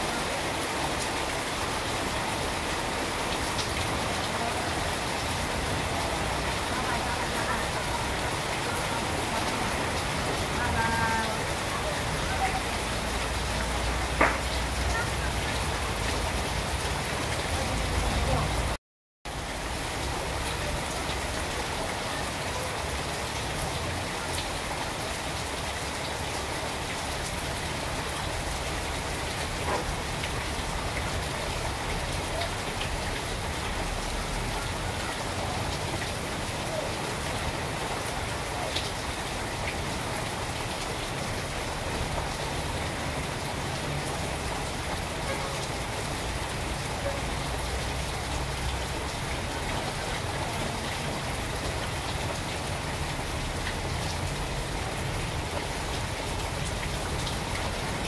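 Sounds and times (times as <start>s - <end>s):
rain on foliage: 0.0s - 58.0s.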